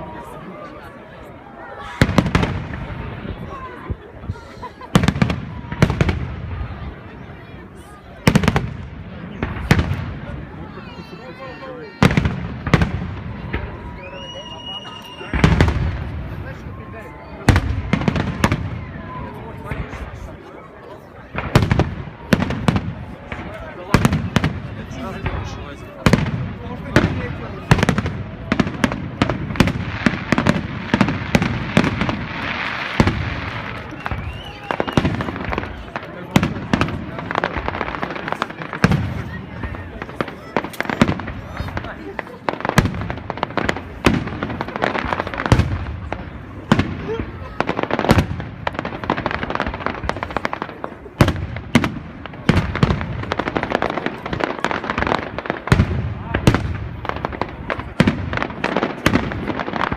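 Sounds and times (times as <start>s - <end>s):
fireworks bangs: 1.8s - 59.9s
fireworks crackle: 1.8s - 59.9s.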